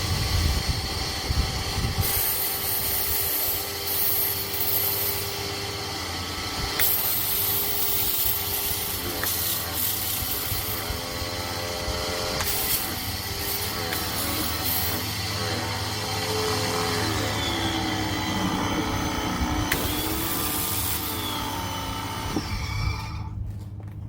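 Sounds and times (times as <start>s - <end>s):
pressure washer motor humming: 0.0s - 22.8s.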